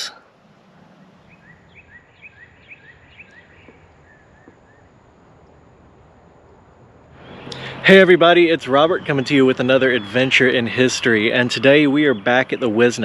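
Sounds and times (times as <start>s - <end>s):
outdoor background noise: 0.0s - 13.0s
songbird chirping: 0.0s - 13.0s.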